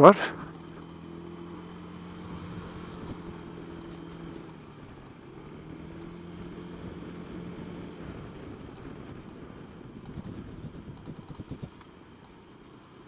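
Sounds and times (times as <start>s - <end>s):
road rumble: 0.0s - 13.0s
scooter engine running: 0.2s - 13.0s.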